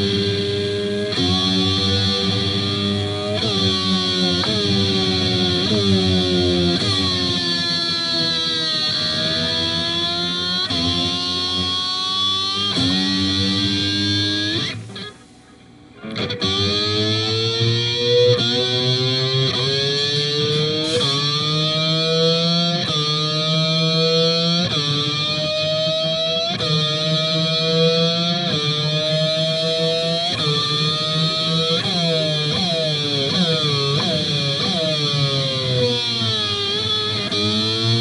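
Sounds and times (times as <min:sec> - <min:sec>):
distorted electric slide guitar: 0:00.0 - 0:38.0.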